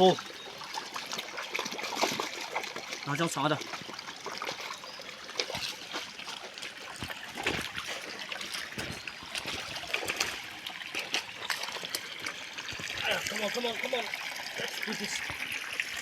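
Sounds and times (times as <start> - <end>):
stream water trickling over rocks: 0.0 - 16.0.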